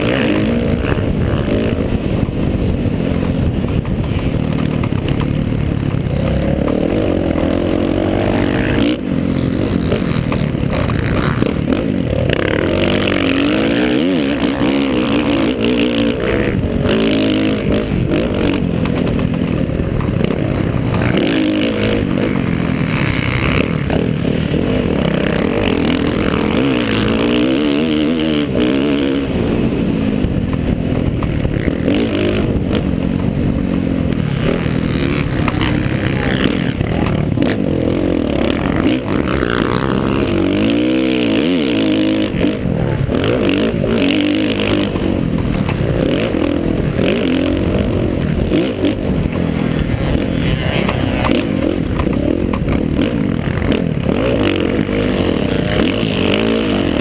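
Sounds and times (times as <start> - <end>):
motorbike engine revving: 0.0 - 57.0
wind noise: 0.0 - 57.0.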